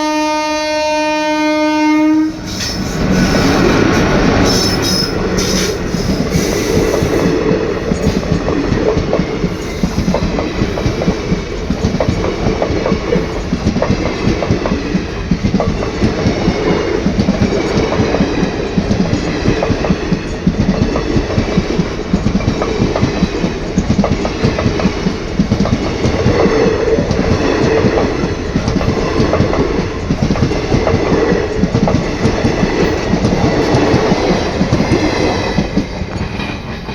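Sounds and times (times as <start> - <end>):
train wheels clattering over rail joints: 2.4 - 36.9.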